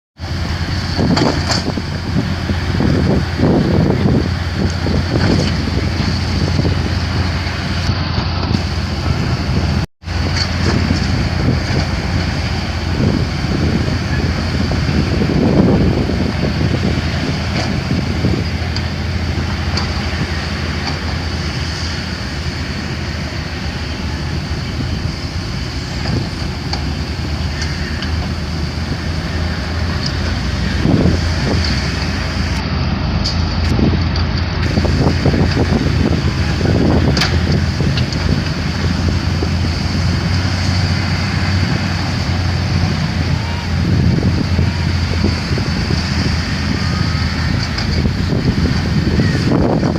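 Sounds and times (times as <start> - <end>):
heavy diesel machinery running: 0.2 - 49.9.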